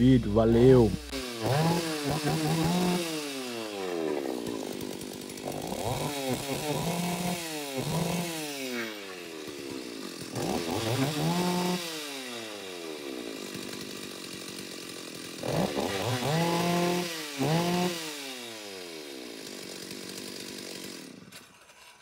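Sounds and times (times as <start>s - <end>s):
chainsaw idling and revving: 0.0s - 22.0s.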